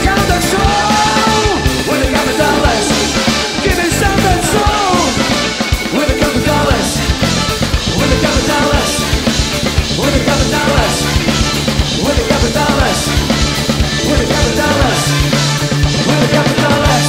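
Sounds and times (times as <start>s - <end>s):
drum kit beat: 0.0s - 17.0s
funk band playing: 0.0s - 17.0s.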